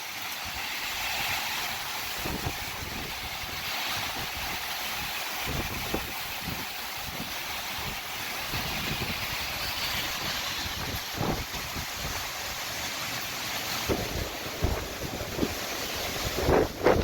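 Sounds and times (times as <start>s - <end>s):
wind blowing across microphone: 0.4s - 12.8s, 13.7s - 17.0s.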